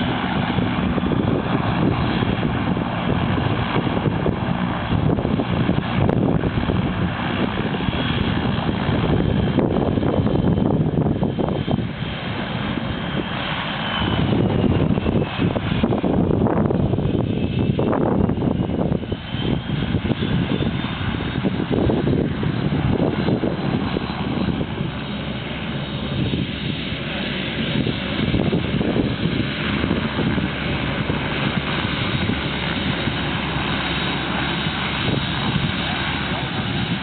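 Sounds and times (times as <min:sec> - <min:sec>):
high turbine whine: 0:00.0 - 0:37.0
propeller plane engine running: 0:00.0 - 0:37.0.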